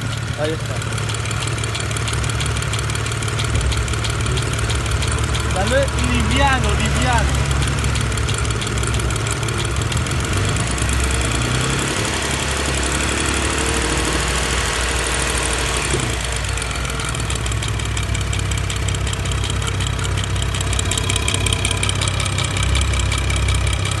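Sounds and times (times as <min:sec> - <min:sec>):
car engine idling: 0:00.0 - 0:24.0
engine knocking: 0:00.0 - 0:24.0.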